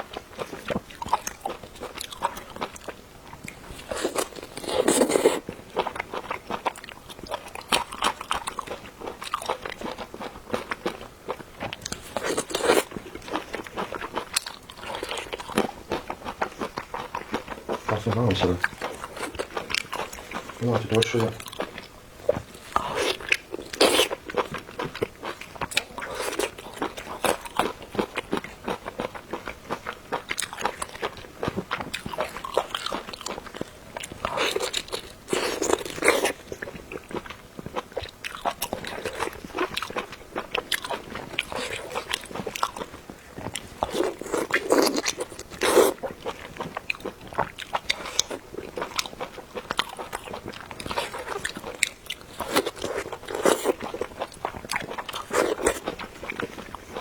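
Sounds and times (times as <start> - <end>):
crunchy chewing and biting: 0.0 - 57.0.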